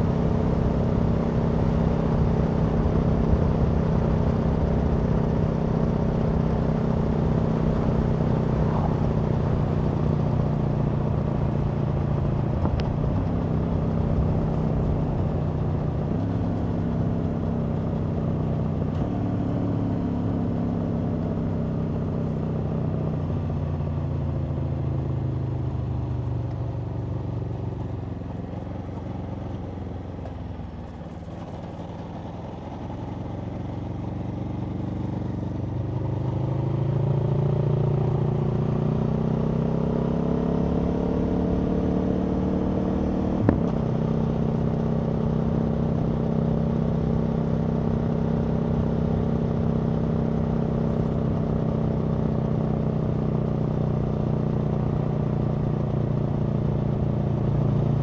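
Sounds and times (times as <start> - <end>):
motorcycle engine and exhaust: 0.0 - 58.0.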